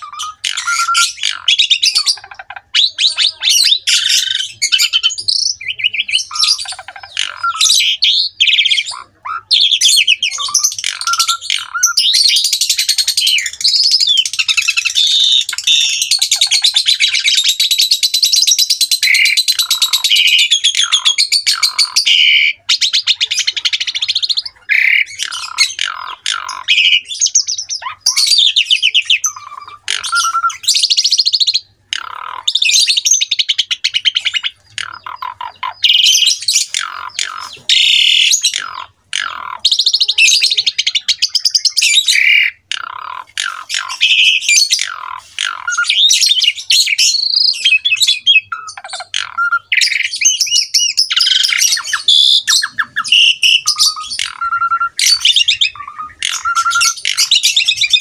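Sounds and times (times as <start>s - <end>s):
starling singing: 0.0s - 58.0s.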